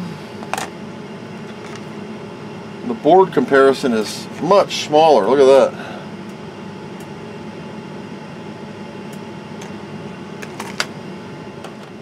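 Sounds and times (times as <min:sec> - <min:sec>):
water heater humming: 0:00.0 - 0:12.0.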